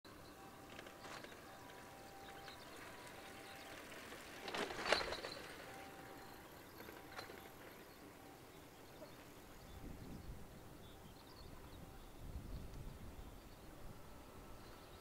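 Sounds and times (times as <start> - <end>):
faint steady tones: 0.1 - 15.0.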